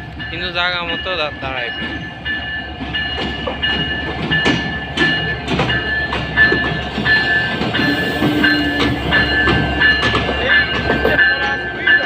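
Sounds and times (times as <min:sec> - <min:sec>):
train low rumble: 0:00.0 - 0:12.0
metallic squeal of wheels and brakes: 0:00.8 - 0:12.0
train wheels clacking over rail joints: 0:00.8 - 0:12.0.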